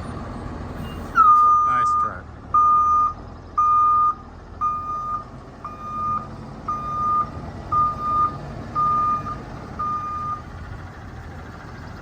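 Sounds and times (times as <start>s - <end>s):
diesel engine running: 0.0s - 12.0s
truck backup alarm beeping: 0.8s - 10.8s.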